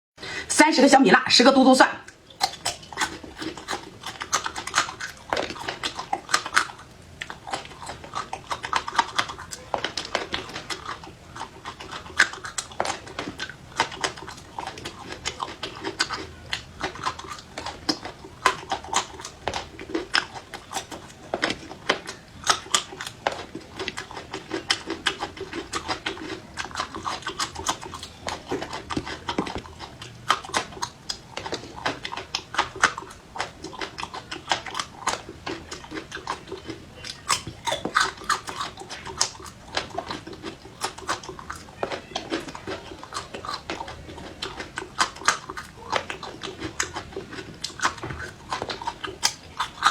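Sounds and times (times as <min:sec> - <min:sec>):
chewing crunches: 0:02.0 - 0:49.9.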